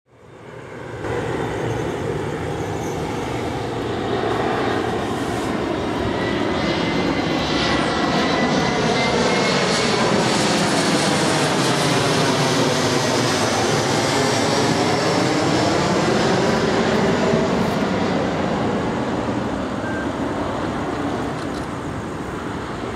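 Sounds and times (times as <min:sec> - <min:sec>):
aircraft engine rumble: 0:00.1 - 0:22.9.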